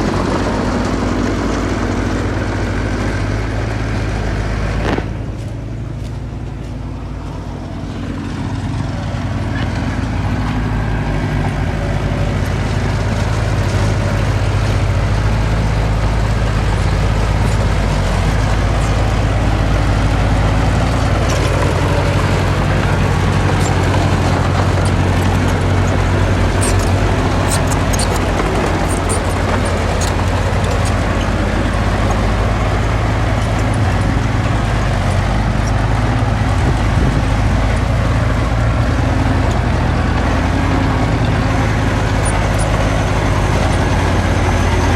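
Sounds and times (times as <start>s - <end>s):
diesel earthmoving machinery running: 0.0s - 44.9s.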